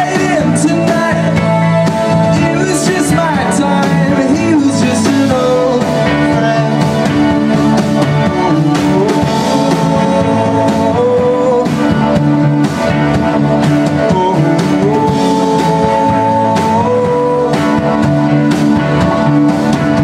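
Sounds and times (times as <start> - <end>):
man singing: 0.0 - 12.7, 13.8 - 18.3
rock band playing live: 0.0 - 20.0.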